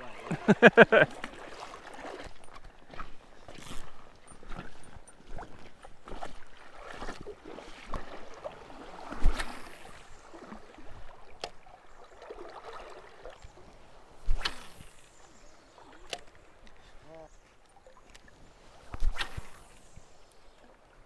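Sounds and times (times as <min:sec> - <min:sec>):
water sloshing around wading legs: 0:00.0 - 0:19.8.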